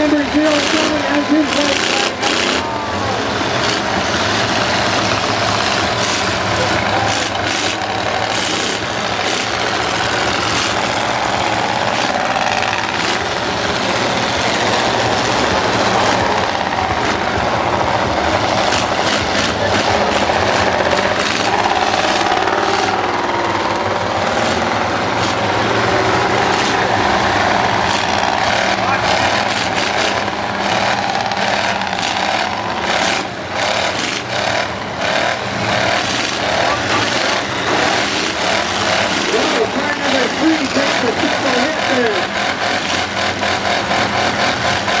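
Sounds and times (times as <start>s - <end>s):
car engines running hard: 0.0s - 45.0s.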